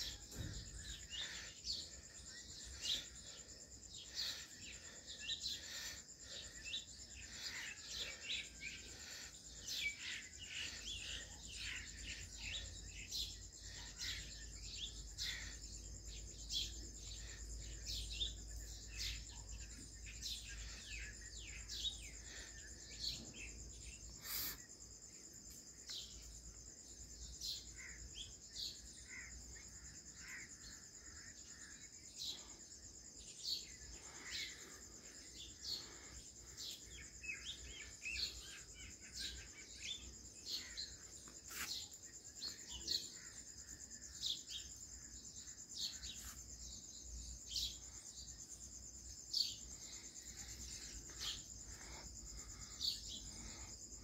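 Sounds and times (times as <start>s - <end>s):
birds chirping: 0.0s - 54.0s
insects droning: 0.0s - 54.0s.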